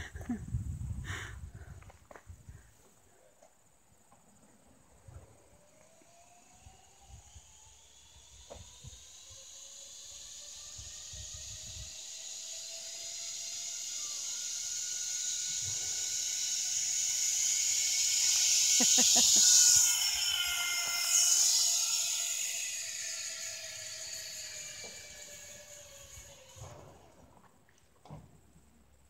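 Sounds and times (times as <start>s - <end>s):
zip line trolley whirring: 4.1s - 27.6s.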